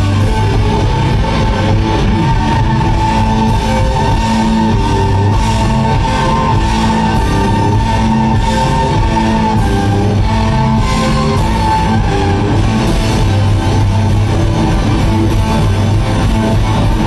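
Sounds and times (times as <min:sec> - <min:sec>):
guitar sustained notes: 0:00.0 - 0:17.0
rock blues band playing: 0:00.0 - 0:17.0
steady drum beat: 0:00.0 - 0:17.0.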